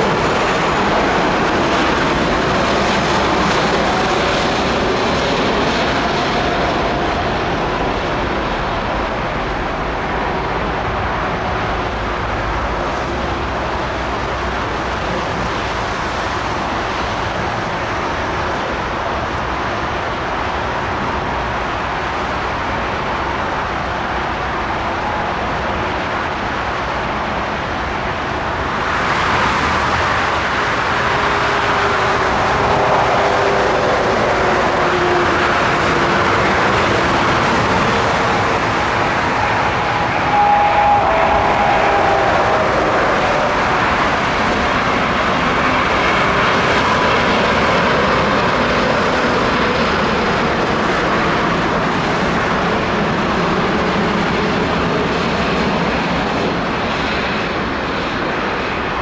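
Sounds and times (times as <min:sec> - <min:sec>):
faint jet whine: 0:00.0 - 0:59.0
jet engine roar: 0:00.0 - 0:59.0.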